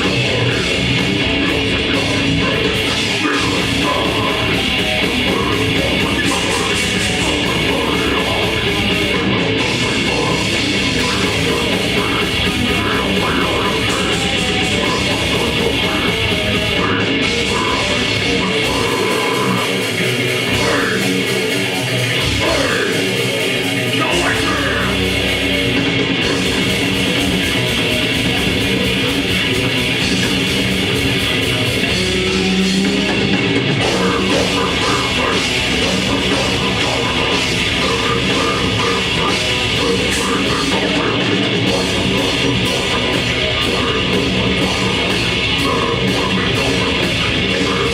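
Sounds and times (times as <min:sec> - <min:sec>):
grindcore band playing live: 0:00.0 - 0:47.9.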